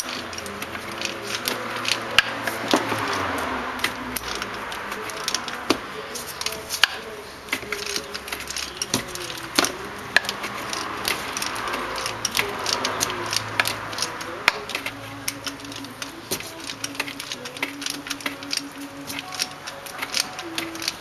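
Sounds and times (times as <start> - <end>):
ratchet wrench clicking: 0.0 - 21.0.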